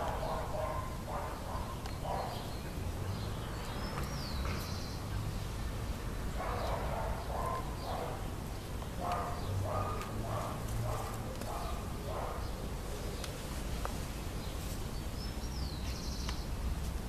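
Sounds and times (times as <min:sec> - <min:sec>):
bird chirp and trill: 0:00.0 - 0:12.7, 0:14.4 - 0:16.6.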